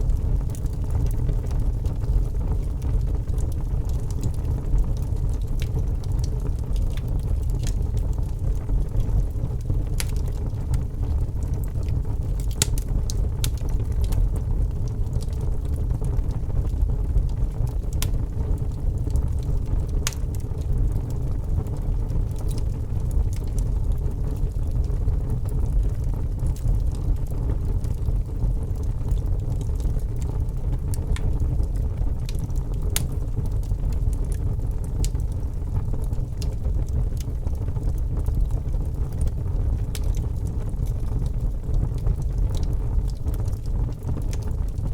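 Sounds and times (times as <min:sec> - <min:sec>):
burning wood crackling and popping: 0:00.0 - 0:44.9
fire rumbling in a fireplace: 0:00.0 - 0:44.9.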